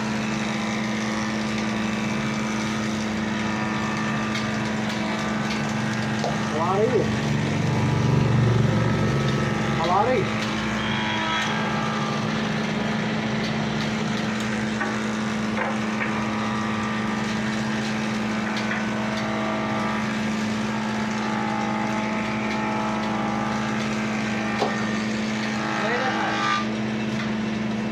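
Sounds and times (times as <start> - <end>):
ceiling fan motor hum: 0.0 - 27.9.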